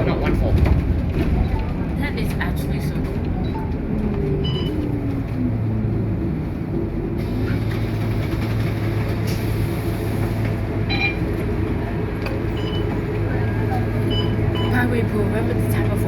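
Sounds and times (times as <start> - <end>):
bus diesel engine drone: 0.0 - 16.0
road and cabin noise: 0.0 - 16.0.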